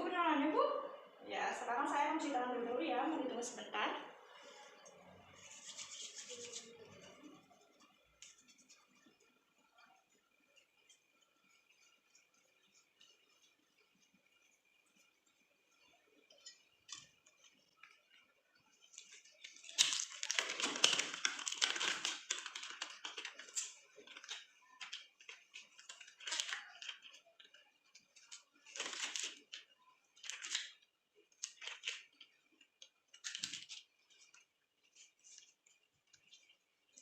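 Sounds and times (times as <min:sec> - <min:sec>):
crinkly material rustling: 0:04.3 - 0:37.0.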